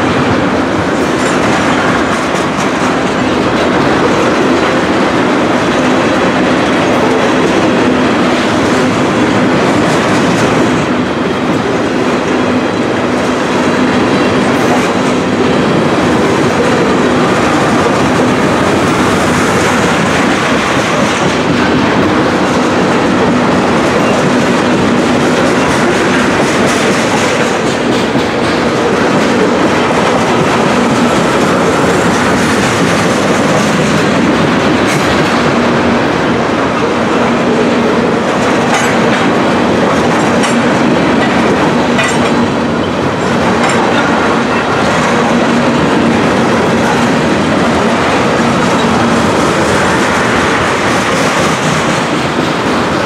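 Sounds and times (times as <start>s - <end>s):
freight train rumbling past: 0.0s - 53.0s
steel wheels clattering on rails: 0.0s - 53.0s.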